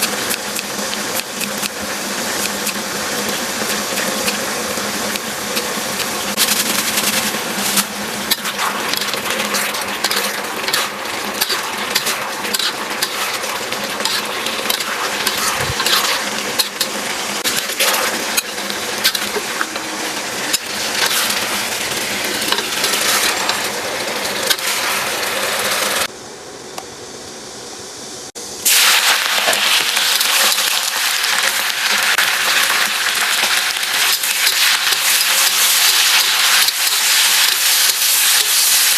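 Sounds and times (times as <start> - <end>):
food sizzling in a hot pan: 0.0 - 26.1, 28.6 - 38.9.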